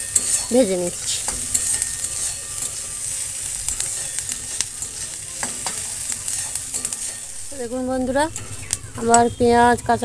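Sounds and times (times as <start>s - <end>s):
spatula scraping metal pan: 0.0s - 9.9s
vegetables sizzling in hot oil: 0.0s - 10.0s.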